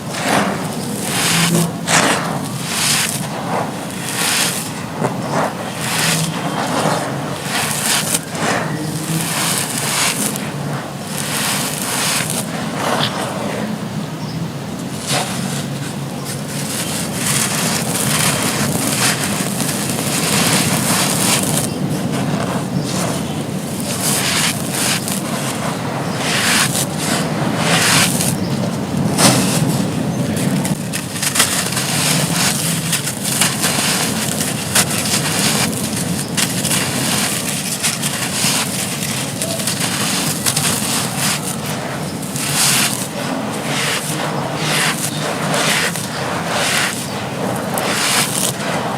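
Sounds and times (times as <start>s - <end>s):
gritty material being crushed: 0.0s - 48.9s
steady low rumble: 0.0s - 48.9s.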